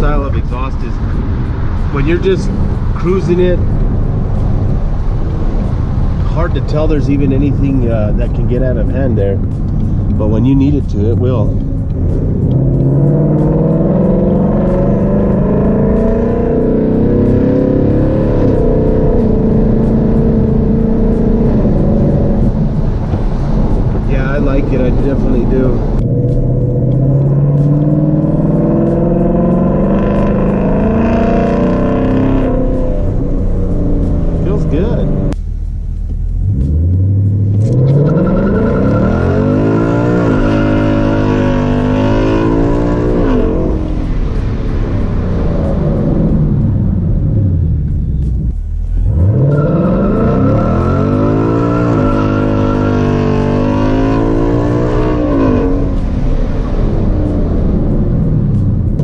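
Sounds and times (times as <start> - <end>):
car exhaust accelerating: 0.0 - 59.0.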